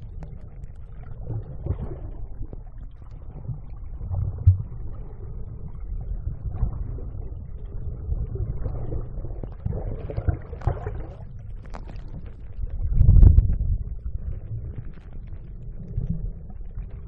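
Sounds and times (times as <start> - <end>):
underwater rumble: 0.0 - 17.0.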